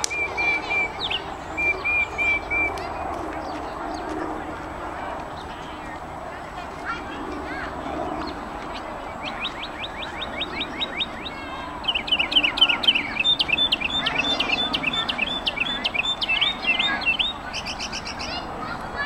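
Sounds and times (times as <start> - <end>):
mockingbird singing: 0.0 - 4.4, 7.6 - 19.0.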